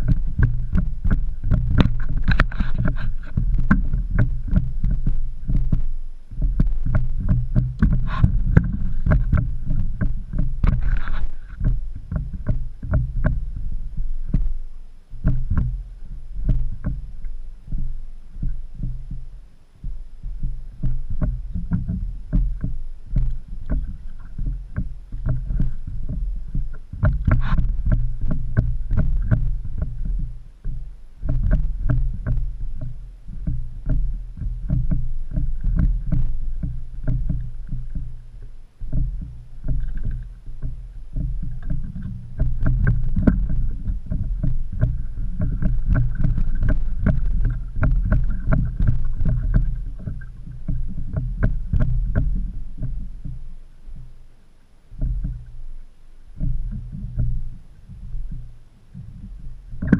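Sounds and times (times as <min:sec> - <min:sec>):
wind and water rumble: 0:00.0 - 0:59.9.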